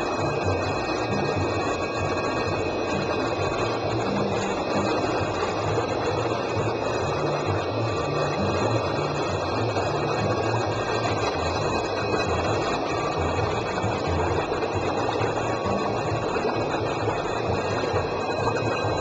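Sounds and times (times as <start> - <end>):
low hum: 0.0 - 19.0
pumps whirring: 0.0 - 19.0
water flowing: 0.0 - 19.0.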